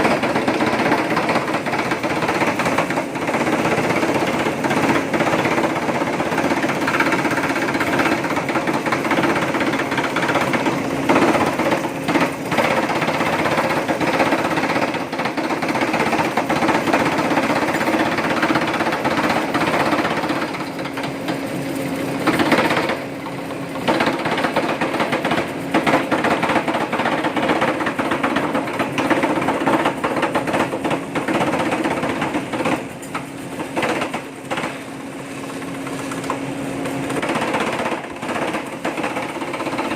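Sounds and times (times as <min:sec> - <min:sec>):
rapid continuous clatter: 0:00.0 - 0:39.9.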